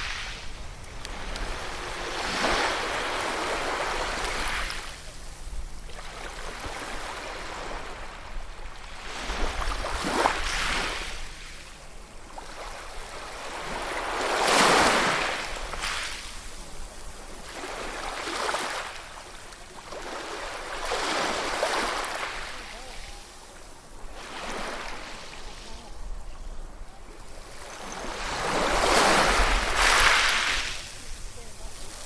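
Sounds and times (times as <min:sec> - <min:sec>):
ocean waves breaking: 0:00.0 - 0:11.6, 0:12.3 - 0:32.0.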